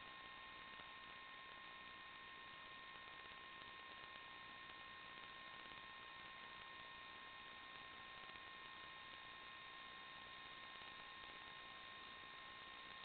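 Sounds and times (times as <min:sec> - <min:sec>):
faint steady hiss: 0:00.0 - 0:13.0
thin steady whine: 0:00.0 - 0:13.0.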